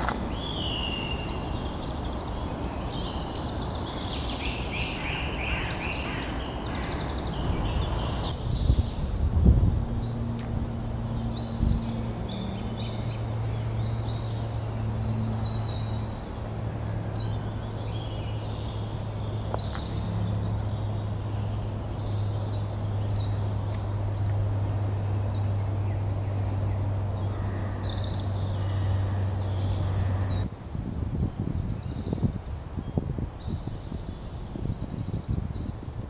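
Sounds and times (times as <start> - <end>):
songbirds singing and calling: 0.0 - 36.0.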